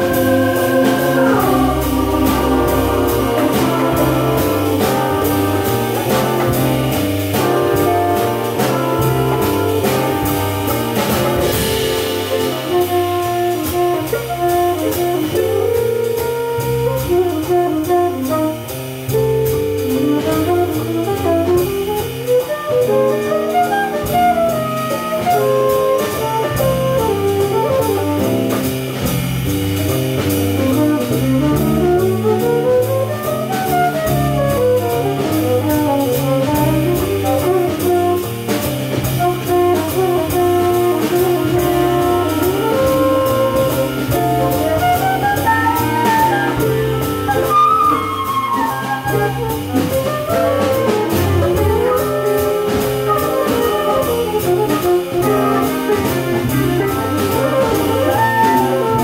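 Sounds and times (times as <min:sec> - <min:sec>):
jazz big band playing: 0:00.0 - 0:59.0.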